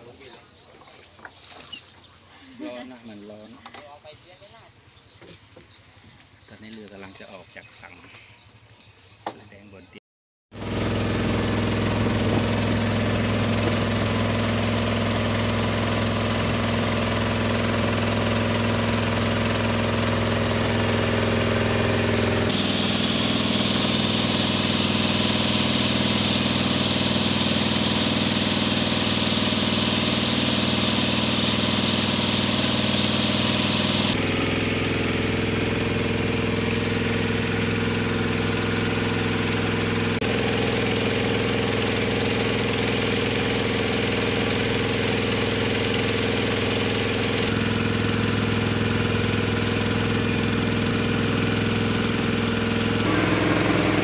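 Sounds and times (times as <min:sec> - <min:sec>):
motorboat engine running: 0:10.5 - 0:54.0.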